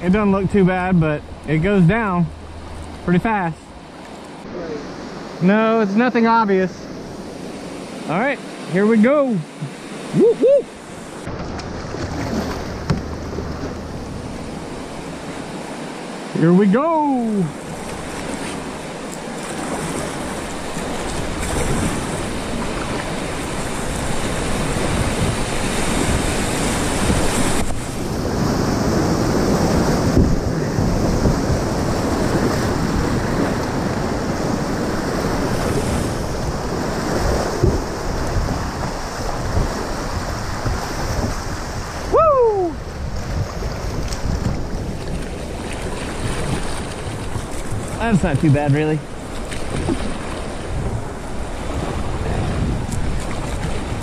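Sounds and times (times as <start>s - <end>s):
whitewater rushing and splashing: 0.0s - 54.0s.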